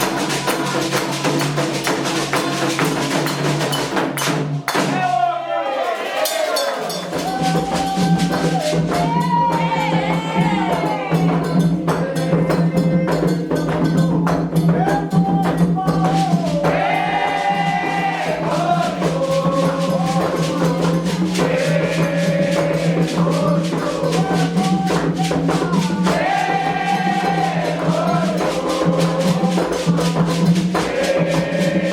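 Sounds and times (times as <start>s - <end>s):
voices chanting a melody: 0.0s - 3.5s, 4.8s - 31.9s
fast percussion strikes: 0.0s - 31.9s.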